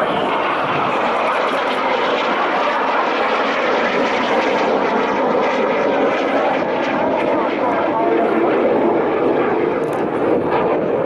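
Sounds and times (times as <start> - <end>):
jets flying past: 0.0 - 11.0.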